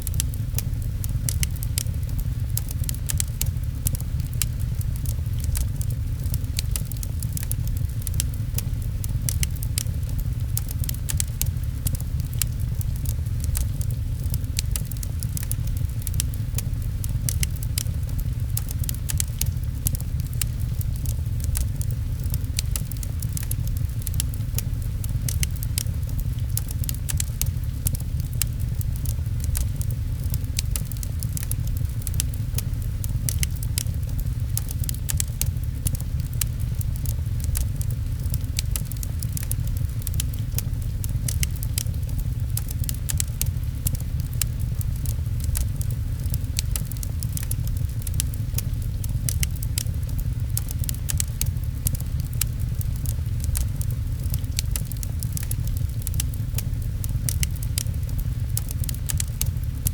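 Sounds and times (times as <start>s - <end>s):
rain rumbling: 0.0s - 59.9s
wood fire crackling: 0.0s - 59.9s.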